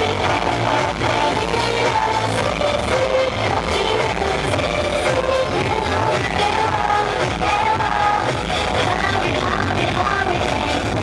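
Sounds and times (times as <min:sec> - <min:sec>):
pop dance song over loudspeakers: 0:00.0 - 0:11.0
woman singing: 0:00.0 - 0:11.0.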